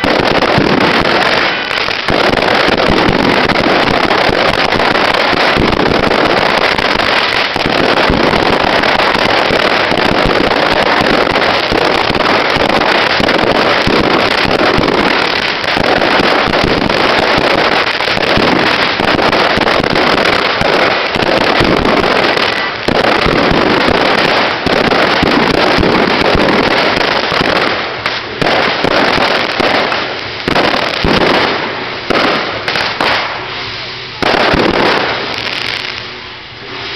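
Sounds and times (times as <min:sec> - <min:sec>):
firecrackers crackling: 0:00.0 - 0:36.9.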